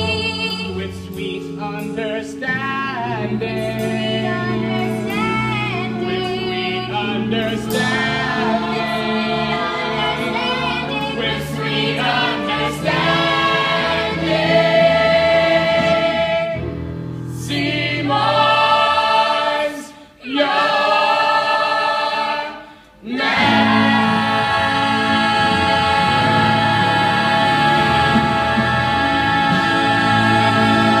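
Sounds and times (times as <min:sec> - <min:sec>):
musical accompaniment: 0:00.0 - 0:31.0
singers and chorus singing: 0:03.1 - 0:31.0.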